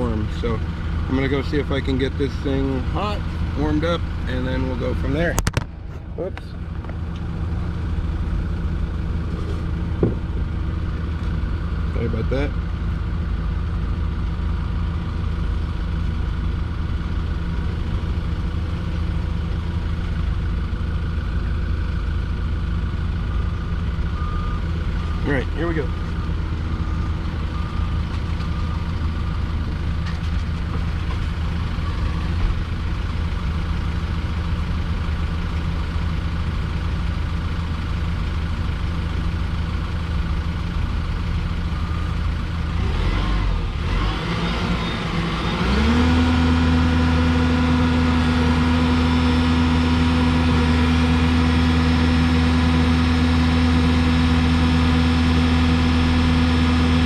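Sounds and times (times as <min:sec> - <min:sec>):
diesel forklift engine: 0:00.0 - 0:57.0.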